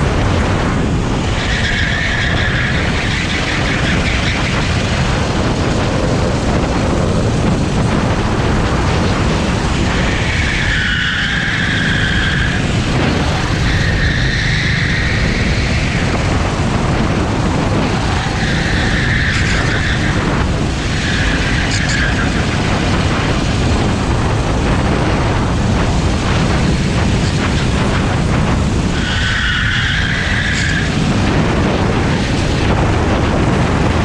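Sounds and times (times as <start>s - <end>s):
kart engine running: 0.0s - 34.0s
wind noise: 0.0s - 34.0s.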